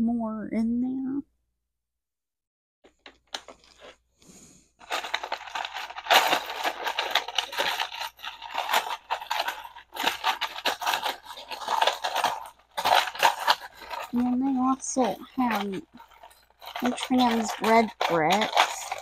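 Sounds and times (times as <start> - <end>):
plastic bricks clattering in a box: 2.9 - 4.0, 4.8 - 19.0.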